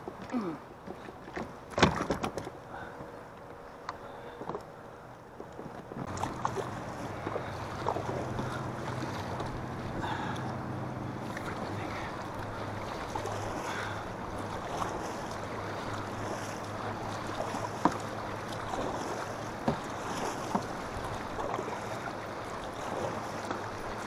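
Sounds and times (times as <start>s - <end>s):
water splashing against hull: 0.0s - 24.0s.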